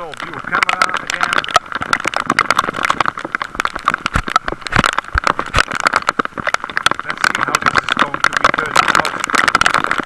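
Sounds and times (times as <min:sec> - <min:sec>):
heavy rain hitting close: 0:00.0 - 0:10.0.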